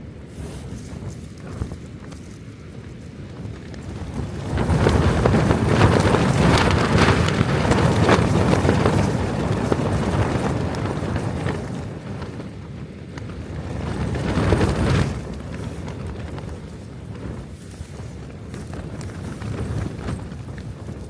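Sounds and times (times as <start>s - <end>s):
tent fabric flapping and rattling: 0.0s - 21.0s
wind buffeting the microphone: 0.0s - 21.0s
wind gusting against a tent: 0.0s - 21.0s.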